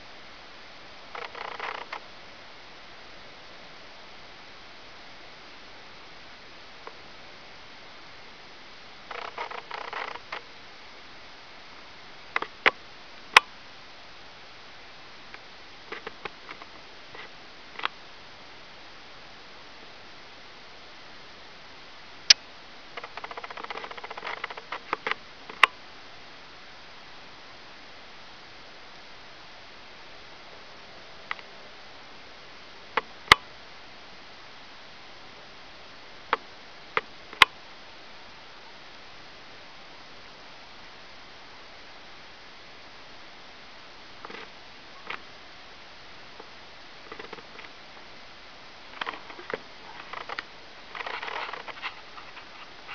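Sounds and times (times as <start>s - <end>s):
steady hiss: 0.0s - 52.9s.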